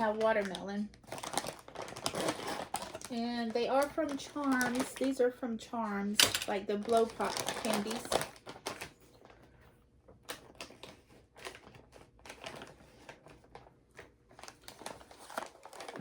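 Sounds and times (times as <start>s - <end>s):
plastic bag crinkling: 0.0s - 5.4s, 6.1s - 16.0s.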